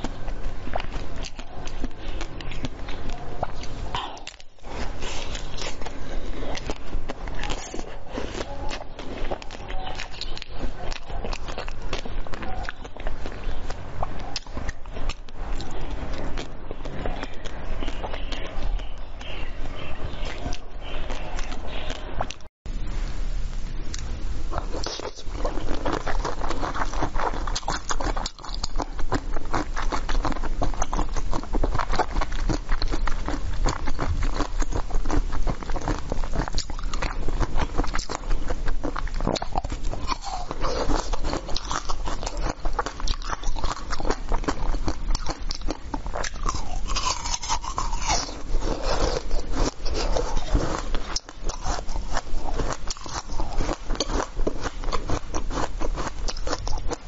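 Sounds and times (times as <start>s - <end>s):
ice crunching while chewed: 0.0s - 22.5s, 23.9s - 57.0s.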